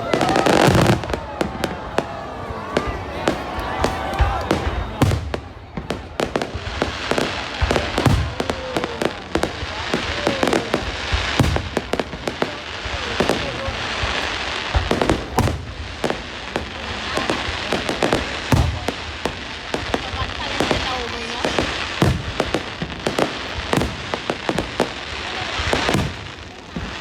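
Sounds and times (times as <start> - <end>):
fireworks bangs: 0.0 - 27.0
fireworks crackling hiss: 0.0 - 27.0.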